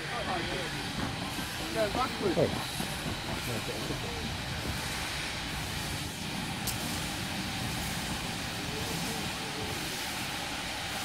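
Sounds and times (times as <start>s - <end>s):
steam locomotive rumbling: 0.0s - 11.0s.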